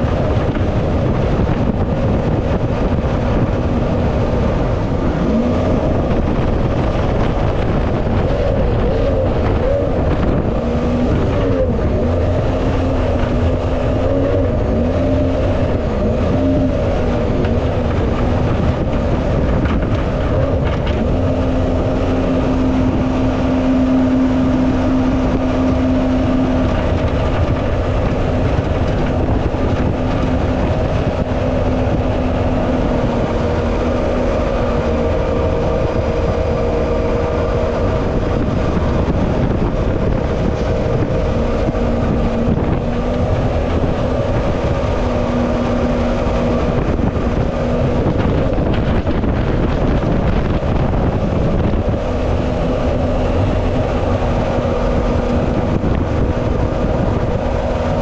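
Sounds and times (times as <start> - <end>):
boat engine running at speed: 0.0 - 58.0
rushing river water: 0.0 - 58.0
wind: 0.0 - 58.0.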